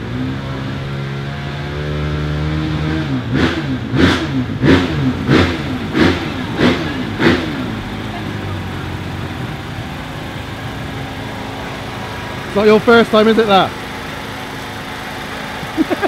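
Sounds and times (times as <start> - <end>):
motocross bike engine revving: 0.0 - 14.5.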